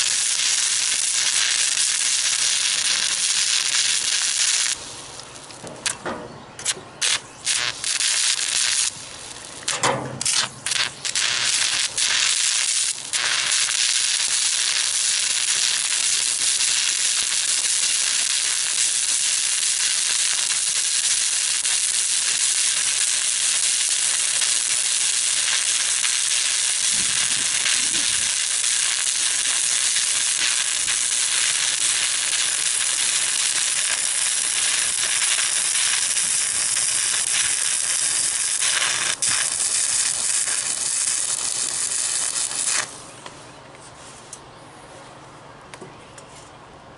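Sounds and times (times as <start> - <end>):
stick welding arc hissing: 0.0 - 6.0, 6.6 - 43.1.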